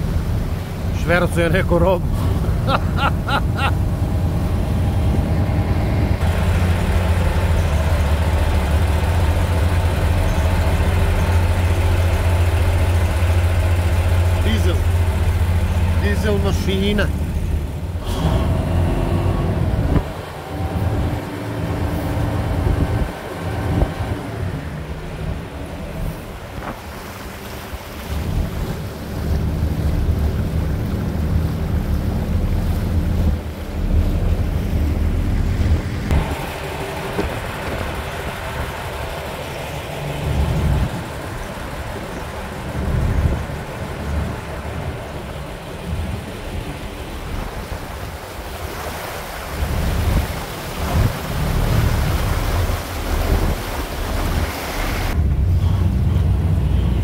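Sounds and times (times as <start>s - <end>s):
diesel engine humming: 0.0s - 26.7s, 28.2s - 57.0s
water rushing: 0.0s - 57.0s
wind buffeting microphone: 2.0s - 12.0s, 19.2s - 57.0s.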